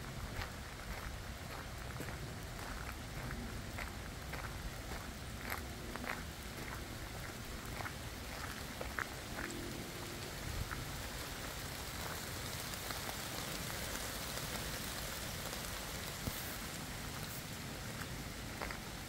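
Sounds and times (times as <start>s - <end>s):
rain falling through forest: 0.0s - 19.0s.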